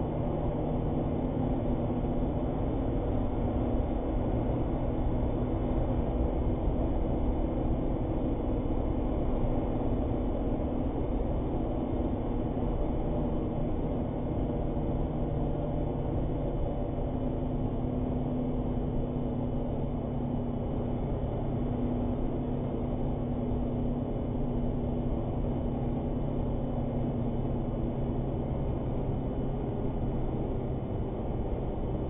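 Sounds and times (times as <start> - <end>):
truck engine drone: 0.0 - 32.0.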